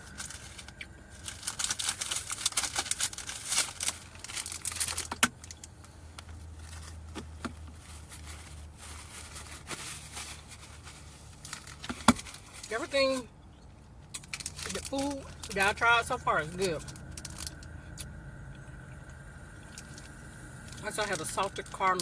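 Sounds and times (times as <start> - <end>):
plastic wrapper crinkling: 0.0 - 13.2, 14.1 - 18.2, 19.0 - 22.0
car air conditioning hum: 0.0 - 22.0.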